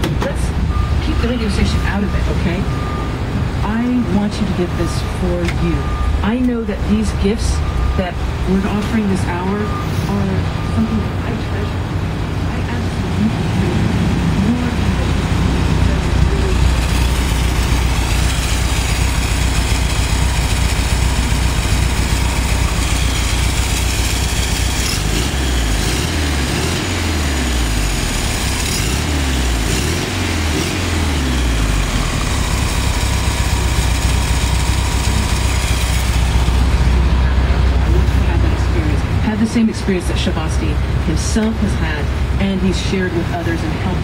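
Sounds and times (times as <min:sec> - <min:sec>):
engine idling and revving: 0:00.0 - 0:44.0.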